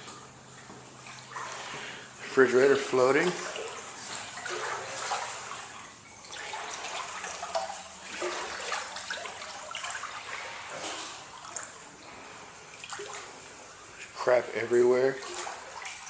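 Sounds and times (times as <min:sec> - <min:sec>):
floodwater sloshing and splashing: 0:00.0 - 0:16.0.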